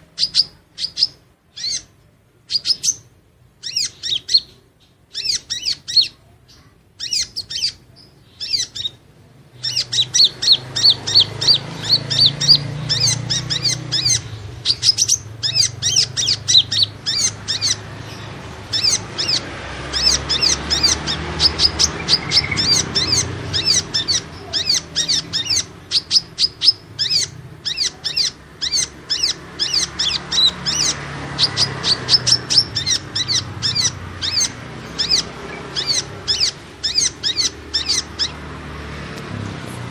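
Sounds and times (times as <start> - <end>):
bird chirping rapidly: 0.0 - 39.0.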